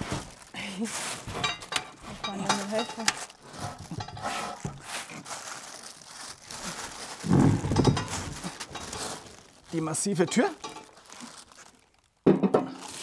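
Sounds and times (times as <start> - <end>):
plastic sheeting crinkling: 0.0 - 13.0.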